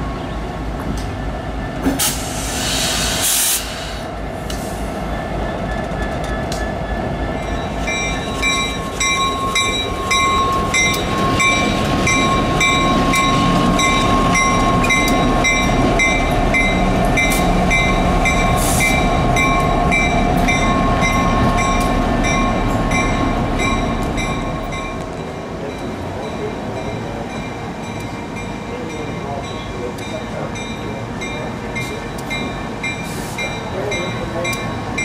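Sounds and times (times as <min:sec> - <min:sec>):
locomotive bell ringing: 0:05.1 - 0:35.0
locomotive engine rumble: 0:05.8 - 0:35.0.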